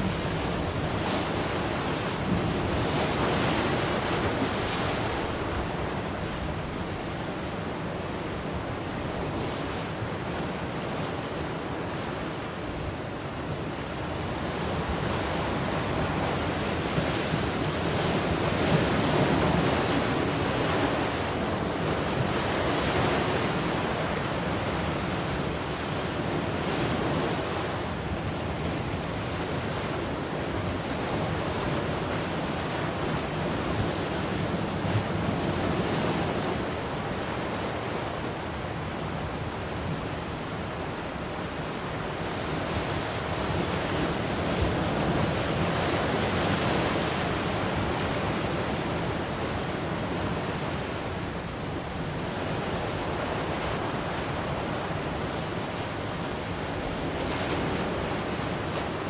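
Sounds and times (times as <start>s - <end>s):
ocean surf washing ashore: 0.0s - 59.0s
wind noise on microphone: 0.0s - 59.0s.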